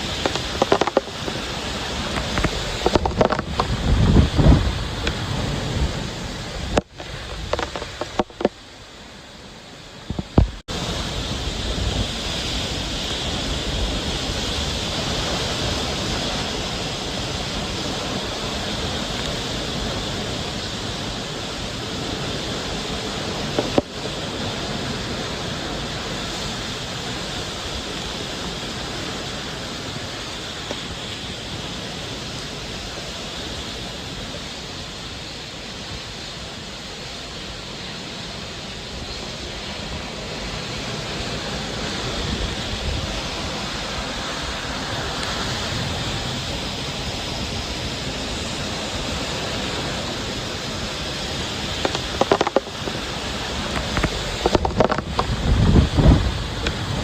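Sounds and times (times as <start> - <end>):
wind and driving rain: 0.0 - 57.0.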